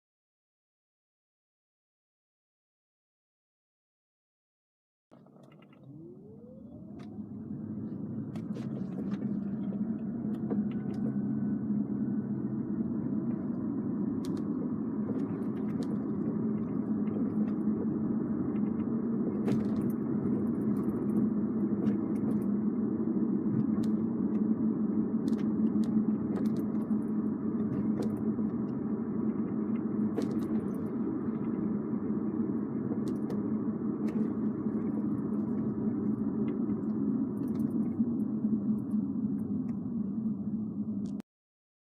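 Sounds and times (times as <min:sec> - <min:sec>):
car cabin whine and road rumble: 0:05.2 - 0:41.2.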